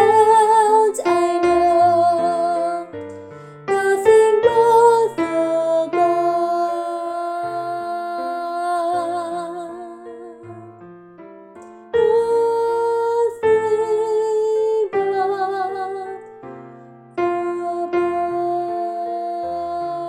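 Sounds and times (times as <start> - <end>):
soprano singing with vibrato: 0.0 - 10.7, 12.0 - 16.5, 17.2 - 20.0
piano accompaniment: 0.0 - 20.0.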